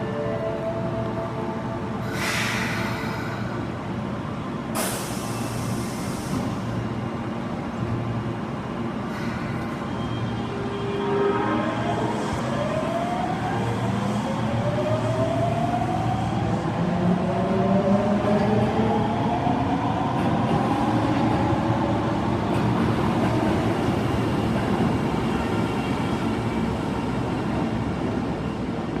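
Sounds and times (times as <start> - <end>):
rail running noise: 0.0 - 29.0.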